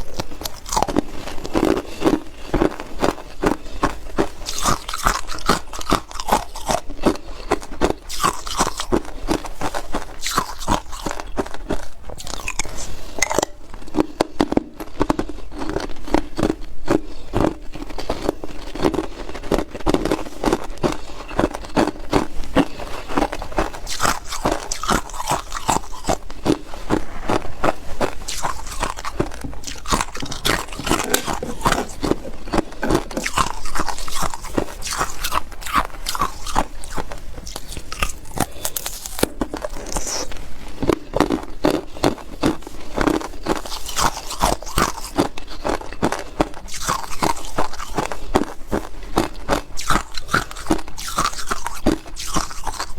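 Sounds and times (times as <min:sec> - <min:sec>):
ice crunching being chewed: 0:00.0 - 0:52.9.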